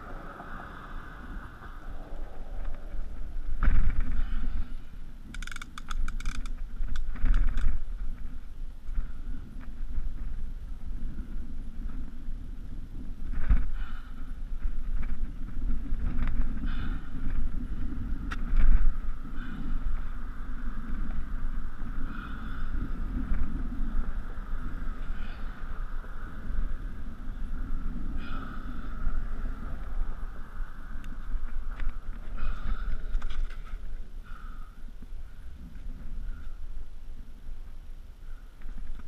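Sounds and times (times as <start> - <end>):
wind rumbling on microphone: 0.0 - 39.0.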